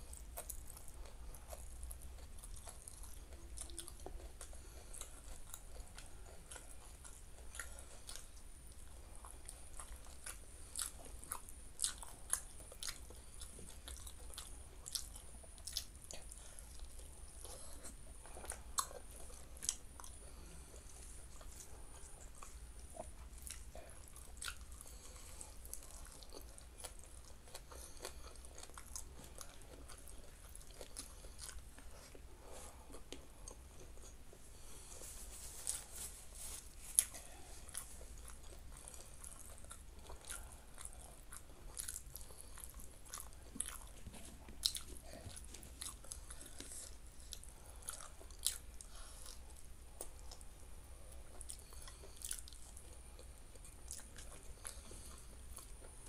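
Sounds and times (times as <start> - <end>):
close chewing: 0.0 - 56.0.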